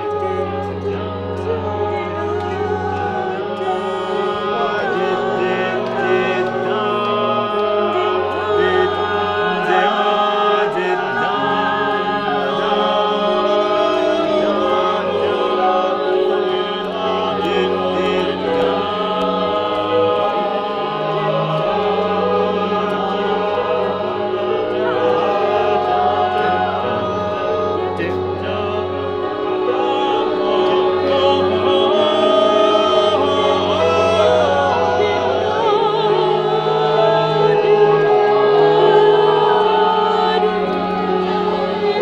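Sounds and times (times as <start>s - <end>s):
choir singing held notes: 0.0s - 42.0s.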